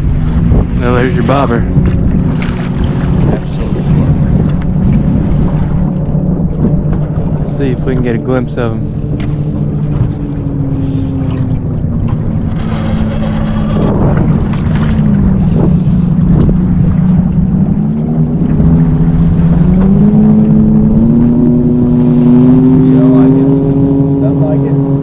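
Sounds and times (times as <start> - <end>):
boat motor running: 0.0 - 25.0.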